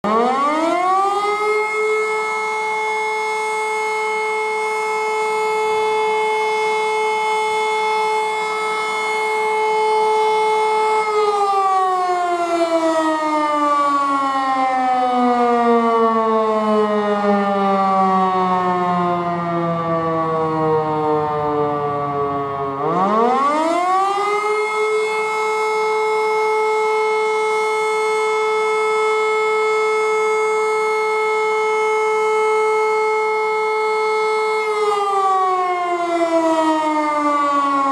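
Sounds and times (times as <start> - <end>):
electromechanical siren: 0.0 - 37.9.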